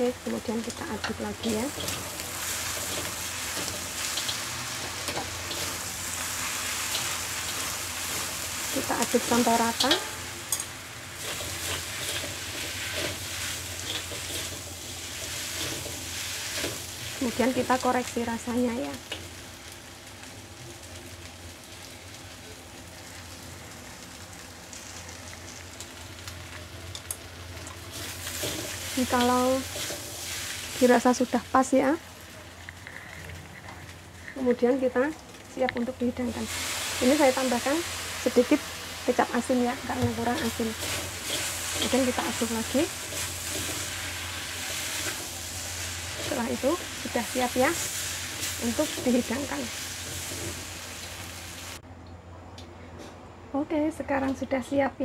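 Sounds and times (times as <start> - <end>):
noodles sizzling in a wok: 0.0 - 51.8.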